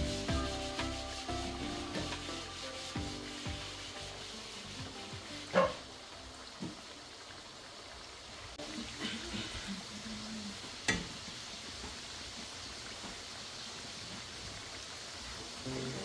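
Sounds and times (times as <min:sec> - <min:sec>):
slices deep-frying in oil: 0:00.0 - 0:16.0.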